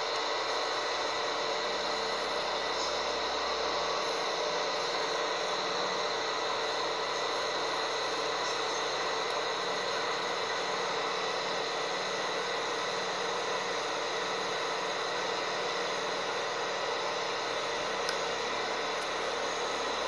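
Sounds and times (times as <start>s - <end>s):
train drone and hiss: 0.0s - 20.0s.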